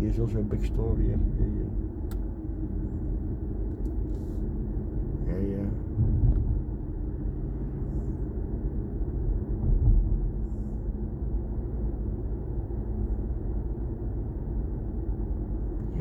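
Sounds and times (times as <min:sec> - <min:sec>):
road and tyre rumble in car: 0:00.0 - 0:16.0.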